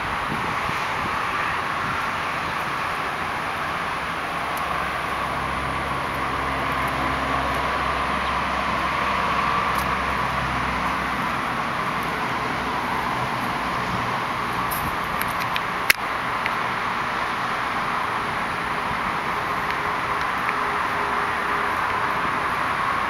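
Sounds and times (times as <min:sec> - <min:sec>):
car engine humming: 0:00.0 - 0:23.0
constant hiss: 0:00.0 - 0:23.0.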